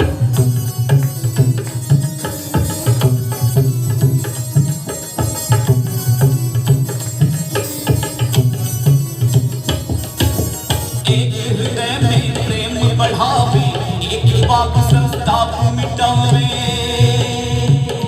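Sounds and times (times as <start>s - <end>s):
tabla playing: 0.0s - 18.0s.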